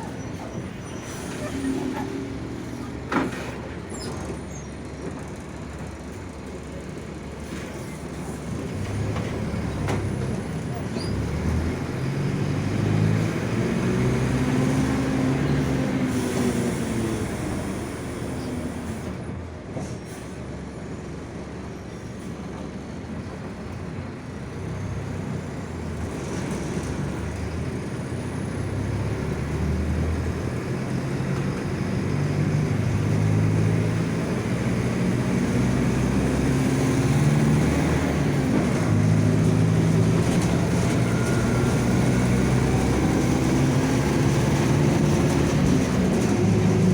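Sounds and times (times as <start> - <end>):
bus differential growling and whining: 0.0 - 46.9.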